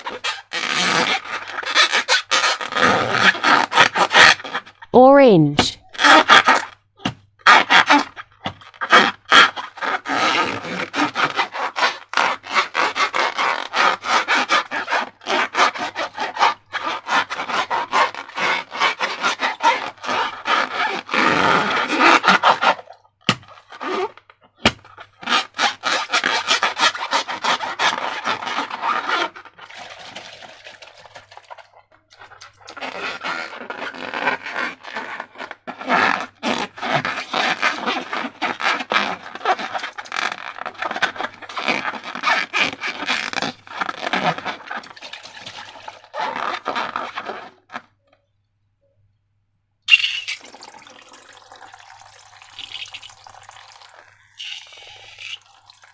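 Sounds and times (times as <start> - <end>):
balloons and slime squeezed by hand: 0.0 - 48.1, 49.9 - 55.9.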